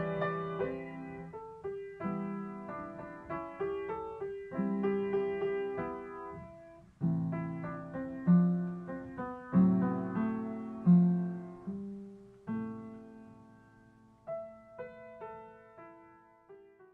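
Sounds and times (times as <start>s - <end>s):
slow piano melody: 0.0s - 16.9s.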